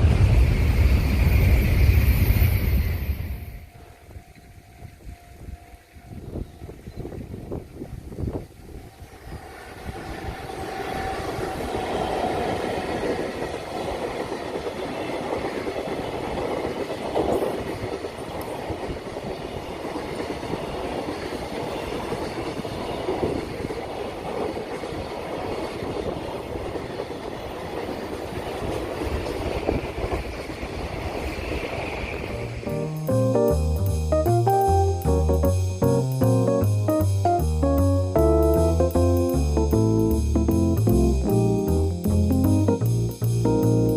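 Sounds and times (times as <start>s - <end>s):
freight train passing: 0.0s - 43.9s.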